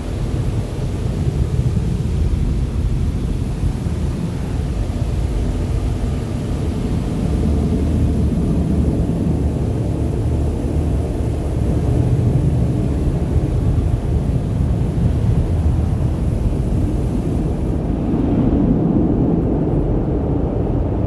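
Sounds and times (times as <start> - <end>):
car wash machinery rumble: 0.0 - 21.0.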